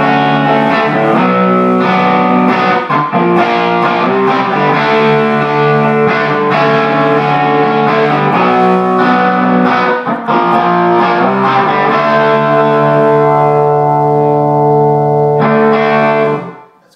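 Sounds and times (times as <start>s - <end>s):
overdriven electric guitar chords: 0.0s - 16.9s.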